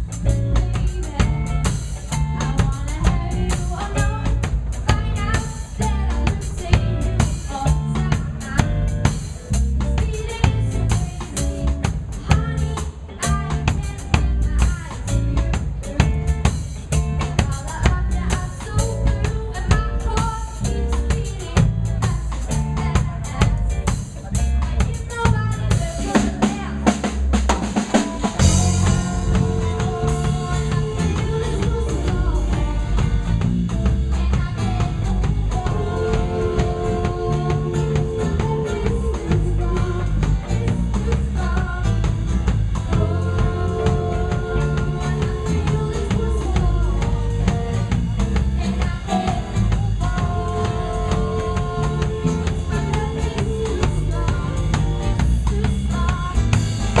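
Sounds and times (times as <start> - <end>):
bass: 0.0 - 57.0
drum fill: 0.0 - 57.0
drum kit beat: 0.0 - 57.0
sustained keyboard or guitar chords: 0.0 - 57.0.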